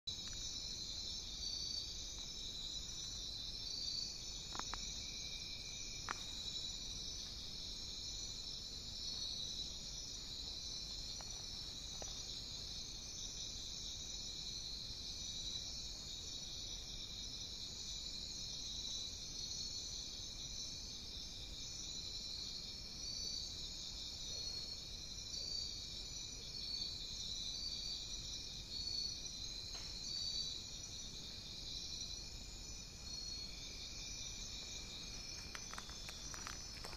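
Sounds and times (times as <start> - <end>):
crickets trilling: 0.1 - 36.9.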